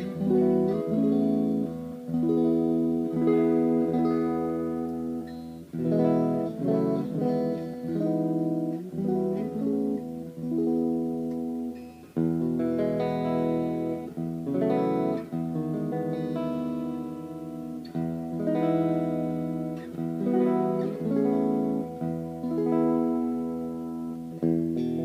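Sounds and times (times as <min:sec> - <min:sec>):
electric guitar chords strummed: 0:00.0 - 0:25.0.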